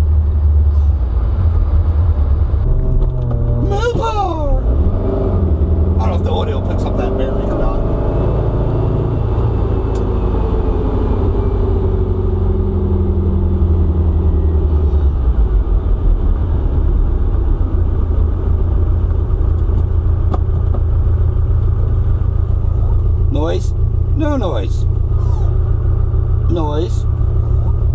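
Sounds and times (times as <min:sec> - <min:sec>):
car engine rumble: 0:00.0 - 0:27.9
road rumble: 0:00.0 - 0:27.9.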